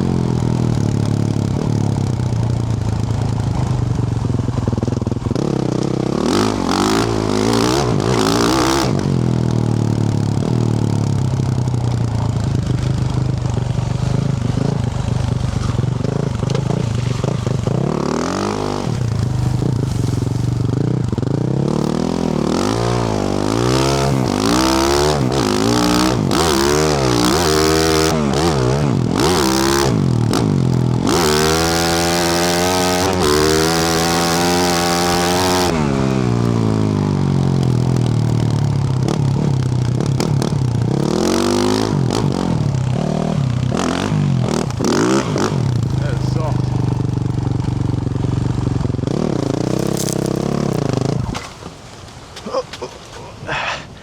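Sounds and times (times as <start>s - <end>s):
dirt bike engine revving: 0.0s - 51.6s
chassis and gravel clatter: 0.0s - 54.0s.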